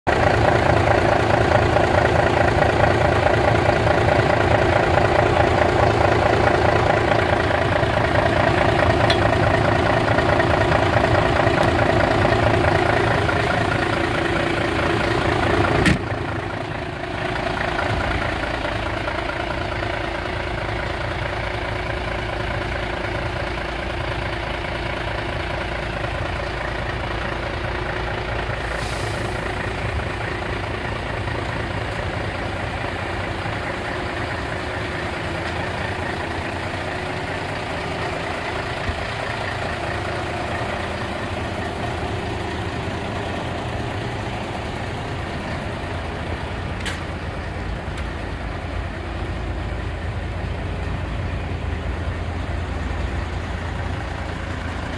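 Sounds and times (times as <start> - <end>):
diesel truck engine idling: 0.1 - 54.9.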